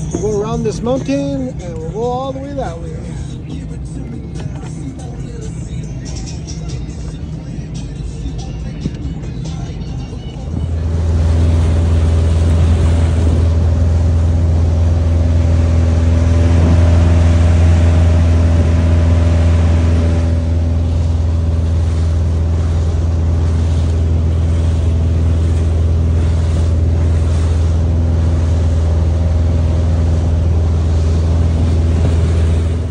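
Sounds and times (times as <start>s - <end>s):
motorboat engine drone: 0.0s - 32.9s.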